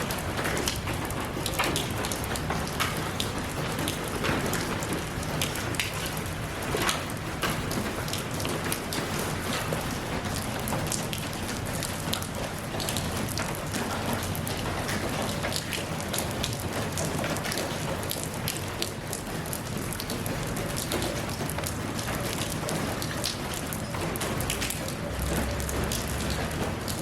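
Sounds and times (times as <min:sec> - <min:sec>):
sharp raindrops striking close: 0:00.0 - 0:27.0
steady rain falling: 0:00.0 - 0:27.0.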